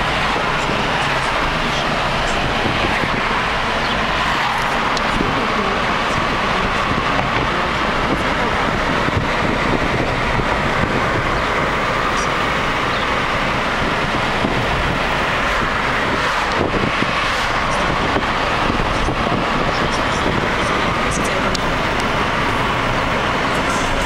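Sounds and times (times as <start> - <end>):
tyres on asphalt: 0.0 - 24.0
wind rushing past car: 0.0 - 24.0.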